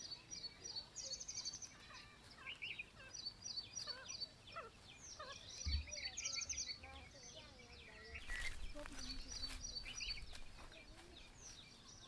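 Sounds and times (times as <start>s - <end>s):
whistled bird notes: 0.0s - 10.4s
wild birds chirping: 0.0s - 12.0s.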